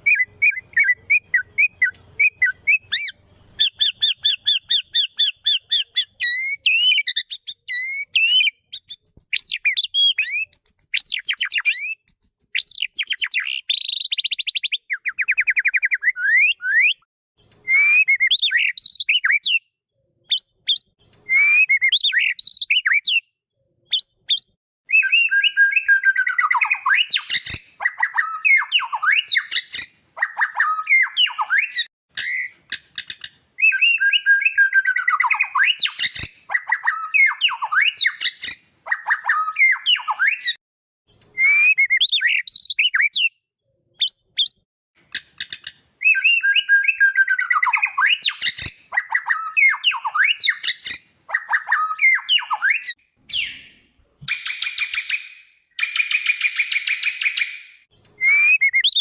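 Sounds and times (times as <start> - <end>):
songbird singing varied song: 0.0 - 19.7, 23.9 - 40.6, 45.2 - 59.0.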